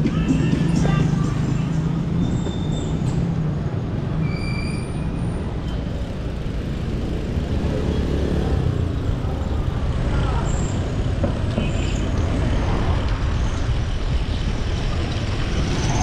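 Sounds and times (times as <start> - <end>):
motor traffic passing: 0.0 - 16.0
wind and road noise: 0.0 - 16.0.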